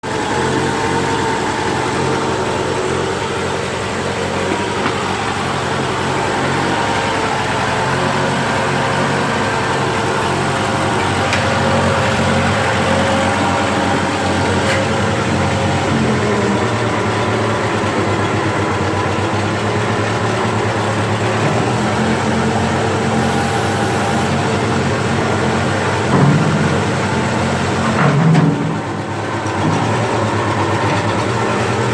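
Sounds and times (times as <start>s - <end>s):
skid steer engine running: 0.0s - 31.9s.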